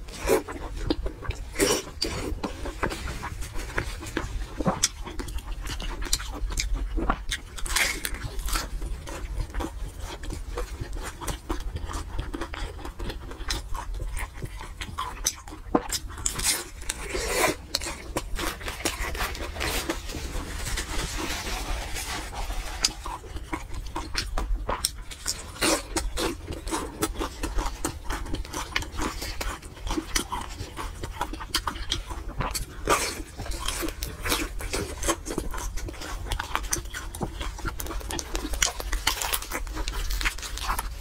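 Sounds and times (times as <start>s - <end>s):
wet chewing and lip-smacking: 0.0s - 21.0s, 22.4s - 41.0s.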